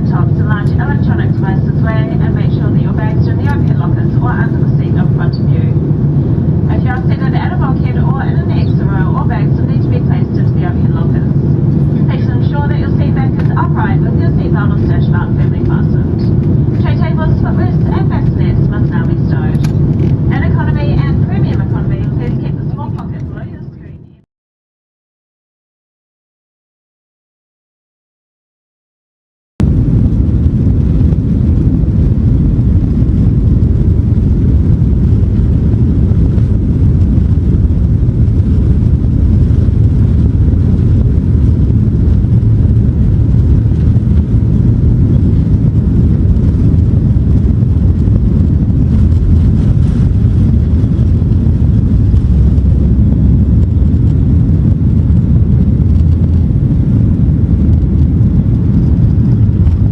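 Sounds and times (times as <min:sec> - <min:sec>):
jet engine cabin rumble: 0:00.0 - 0:24.2, 0:29.6 - 0:59.9.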